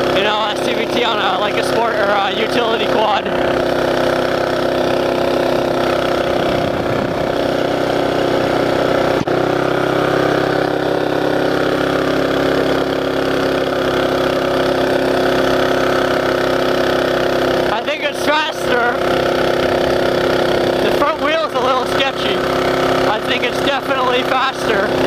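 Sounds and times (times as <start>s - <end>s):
mini bike engine at high revs: 0.0s - 25.0s.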